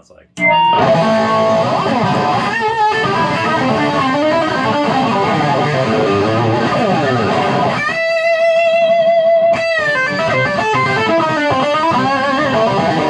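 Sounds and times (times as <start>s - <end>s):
overdriven electric guitar riff: 0.4s - 13.0s.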